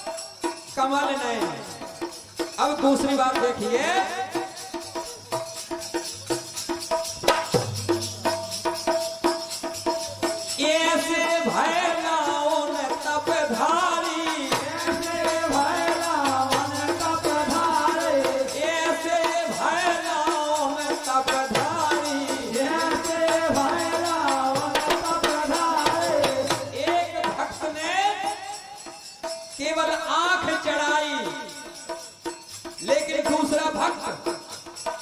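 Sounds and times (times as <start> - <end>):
man singing into a microphone: 0.0 - 5.7, 10.2 - 35.0
jingling percussion: 0.0 - 35.0.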